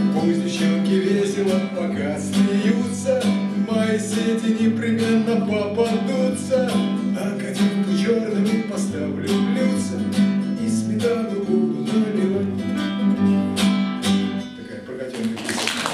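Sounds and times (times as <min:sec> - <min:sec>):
classical guitar strumming: 0:00.0 - 0:15.0.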